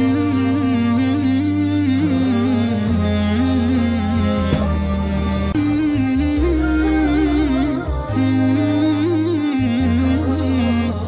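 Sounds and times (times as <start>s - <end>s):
steady low drone: 0.0s - 11.0s
wordless hummed melody: 0.0s - 11.0s.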